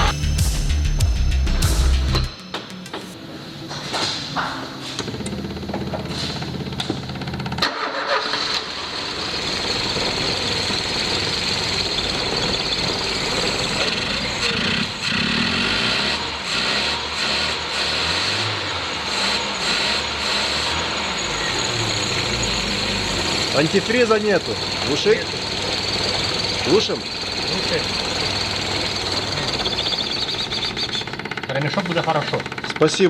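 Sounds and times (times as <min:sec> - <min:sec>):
car engine running: 0:00.0 - 0:02.3, 0:05.0 - 0:33.0.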